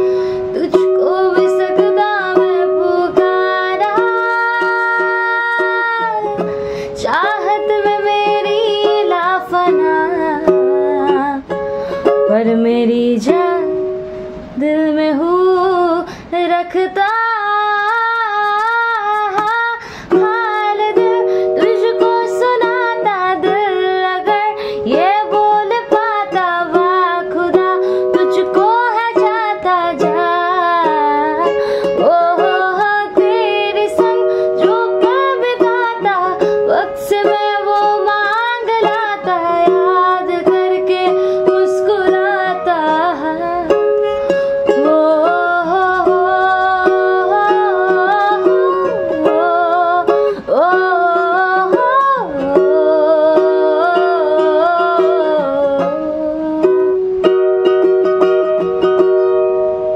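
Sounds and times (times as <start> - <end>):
strummed ukulele: 0.0 - 59.9
woman singing with vibrato: 0.0 - 59.9.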